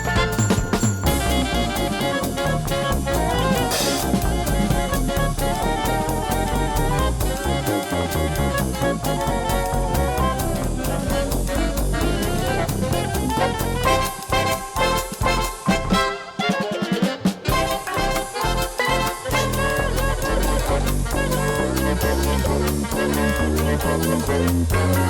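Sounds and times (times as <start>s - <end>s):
upbeat jazzy music: 0.0s - 25.0s.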